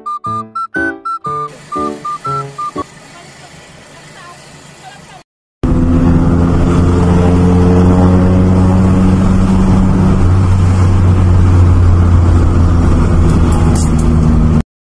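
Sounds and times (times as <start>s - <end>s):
vehicle engine droning: 1.4s - 14.6s.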